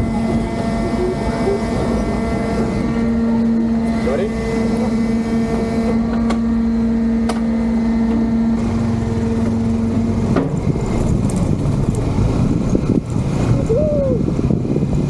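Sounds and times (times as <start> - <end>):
engine humming steadily: 0.0 - 15.0
rough low engine note: 0.0 - 15.0.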